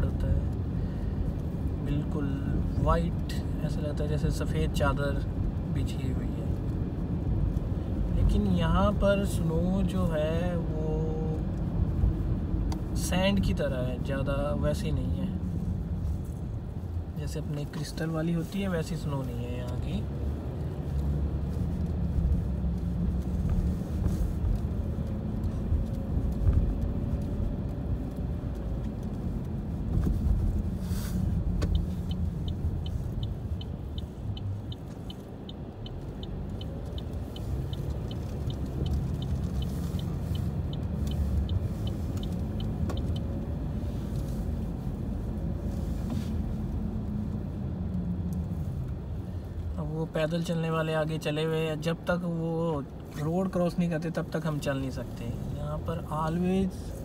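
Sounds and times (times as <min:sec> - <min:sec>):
car engine and tyre rumble: 0:00.0 - 0:57.0
turn signal ticking: 0:00.0 - 0:57.0.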